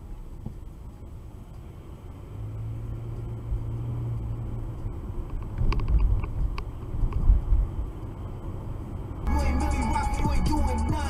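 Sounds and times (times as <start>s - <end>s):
car engine: 0.0s - 11.0s
road rumble: 0.0s - 11.0s.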